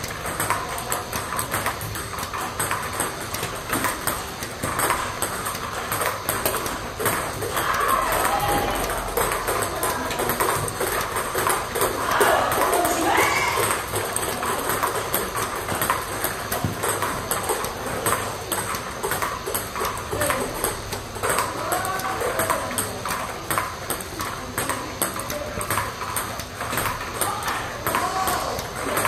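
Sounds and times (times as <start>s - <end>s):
table tennis ball clicks: 0.0s - 29.0s.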